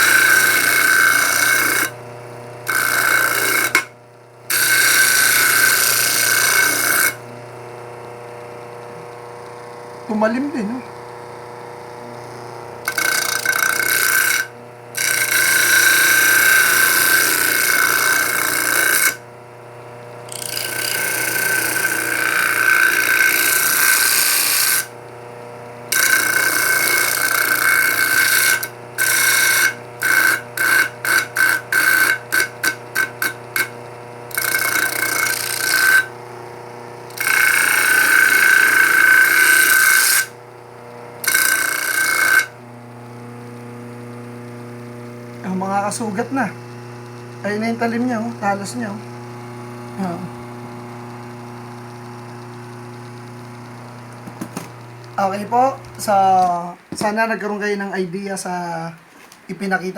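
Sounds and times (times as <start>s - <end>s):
knife grinding on wheel: 0.0s - 7.5s, 10.1s - 19.3s, 20.0s - 57.8s
motor humming: 0.0s - 59.5s.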